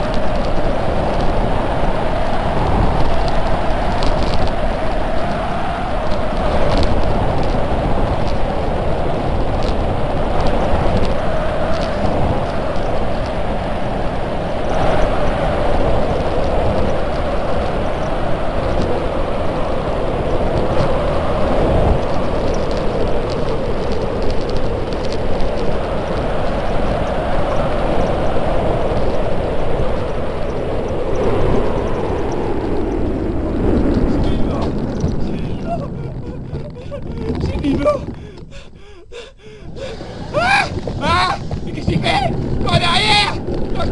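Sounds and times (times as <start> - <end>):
bobsleigh runners rumbling on ice: 0.0 - 43.9.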